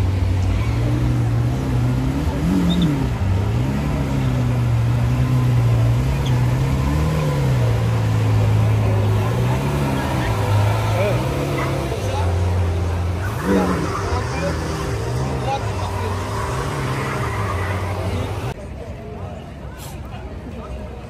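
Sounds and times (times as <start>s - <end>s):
car engine idling and revving: 0.0s - 18.6s.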